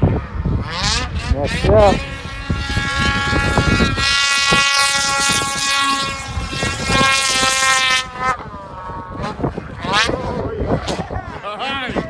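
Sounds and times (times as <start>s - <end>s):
snowmobile engine at high revs: 0.0s - 12.0s.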